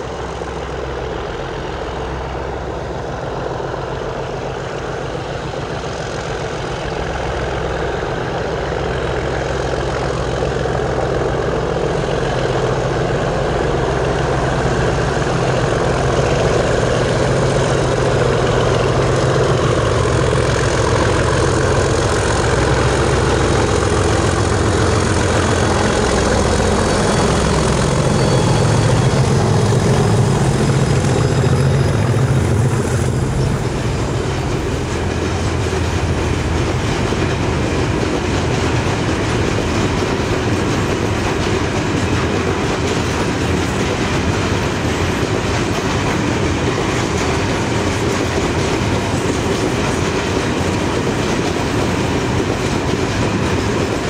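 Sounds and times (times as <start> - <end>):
diesel locomotive engines running: 0.0 - 54.0.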